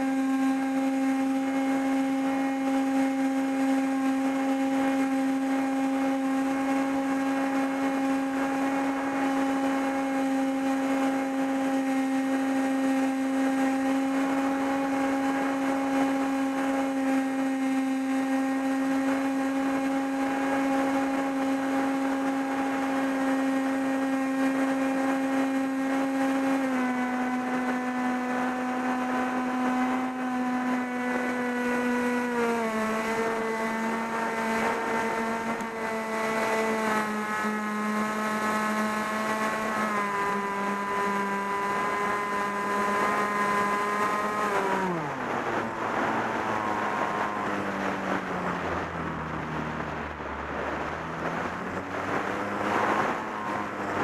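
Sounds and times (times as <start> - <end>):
model plane motor whine: 0.0 - 54.0
wind over microphone: 0.0 - 54.0.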